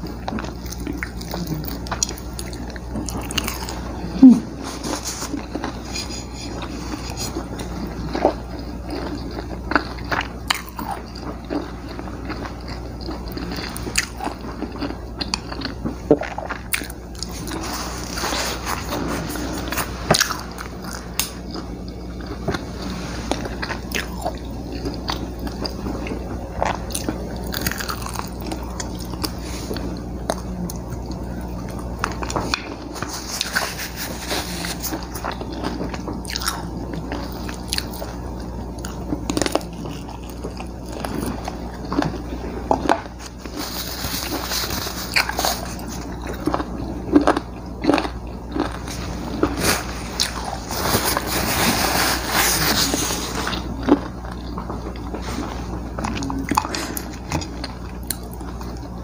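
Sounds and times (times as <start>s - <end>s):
crunching and chewing: 0.0s - 59.0s
steady low hum: 0.0s - 59.0s.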